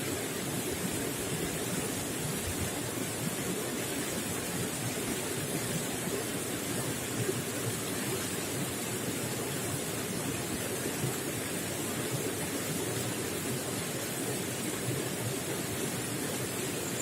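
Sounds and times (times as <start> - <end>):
running water gurgling: 0.0 - 17.0.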